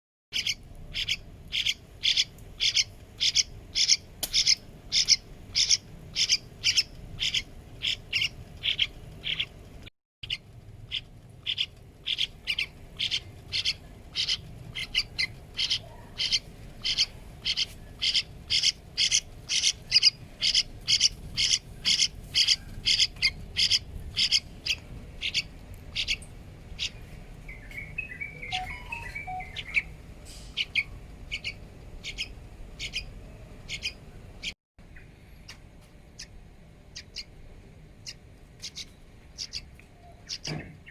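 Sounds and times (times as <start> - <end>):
young bird chirping: 0.4 - 9.5, 10.2 - 37.4, 38.0 - 40.9.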